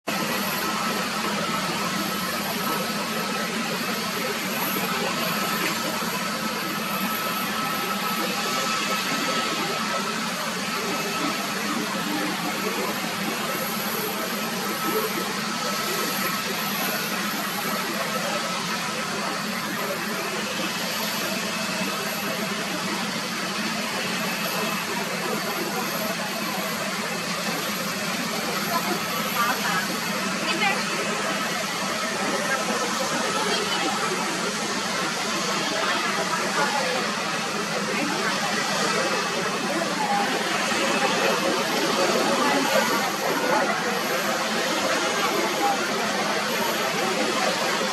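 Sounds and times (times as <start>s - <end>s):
jet engines rushing: 0.1s - 47.9s.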